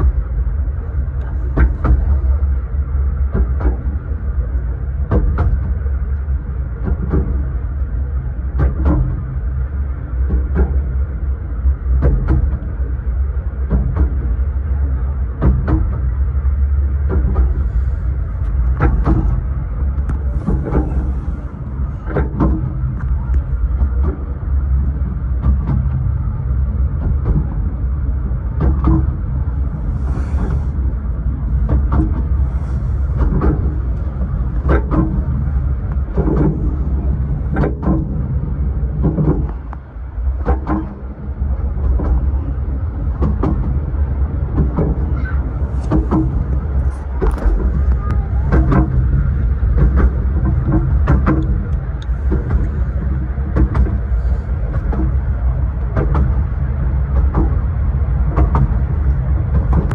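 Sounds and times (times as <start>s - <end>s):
train carriage rumble and rattle: 0.0s - 59.9s.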